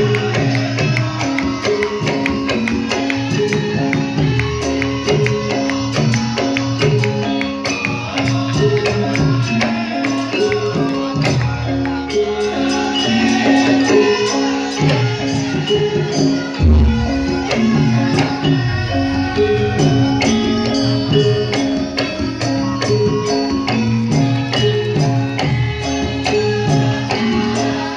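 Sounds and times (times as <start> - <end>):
jingling tambourine-like percussion: 0.0 - 27.9
traditional ensemble melody: 0.0 - 27.9.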